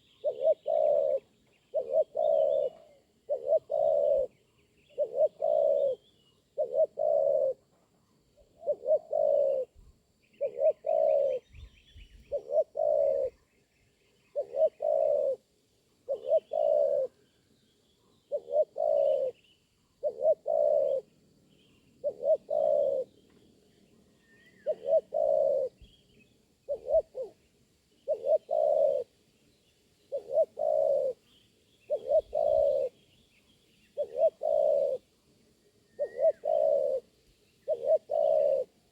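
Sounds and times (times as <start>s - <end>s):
dove cooing: 0.0s - 13.5s, 14.2s - 17.3s, 18.0s - 21.1s, 21.8s - 23.2s, 24.2s - 26.0s, 26.6s - 29.1s, 30.1s - 33.0s, 33.9s - 35.1s, 35.8s - 38.9s
faint small bird chirps: 0.0s - 15.4s, 16.0s - 38.9s.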